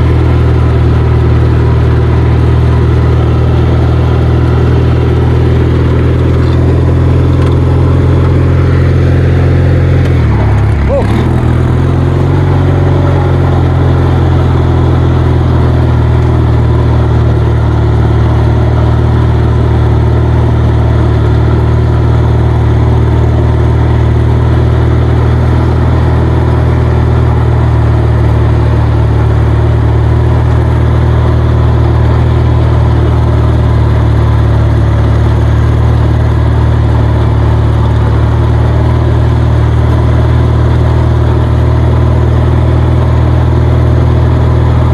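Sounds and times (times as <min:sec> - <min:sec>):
lawnmower engine running: 0:00.0 - 0:44.9.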